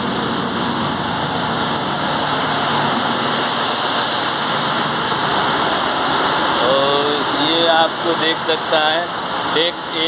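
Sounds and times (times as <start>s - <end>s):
engine room machinery rumble: 0.0s - 10.0s.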